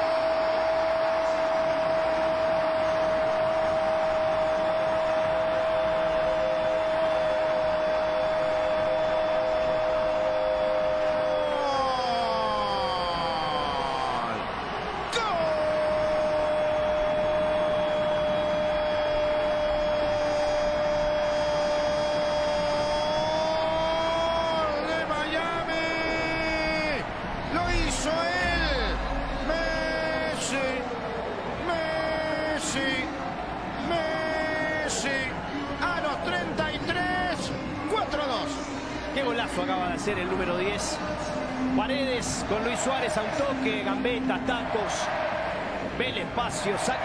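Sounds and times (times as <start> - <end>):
stadium crowd cheering: 0.0 - 47.0.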